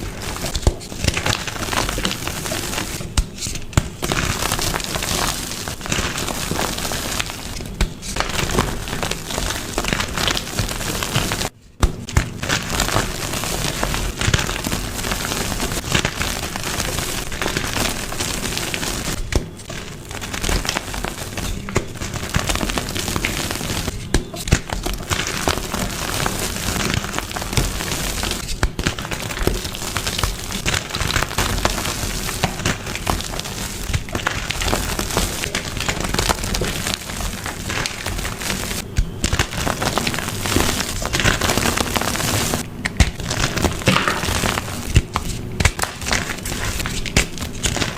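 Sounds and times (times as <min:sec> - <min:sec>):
chalk being crushed: 0:00.0 - 0:47.9.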